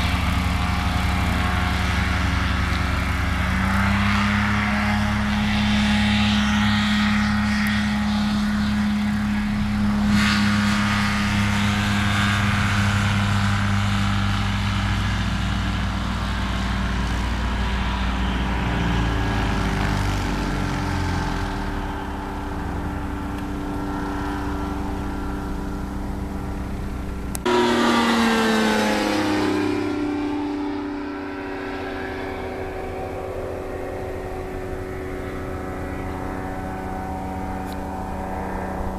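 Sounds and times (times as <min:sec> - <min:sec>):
light aircraft engine and propeller: 0:00.0 - 0:38.9
light plane passing overhead: 0:00.0 - 0:38.9.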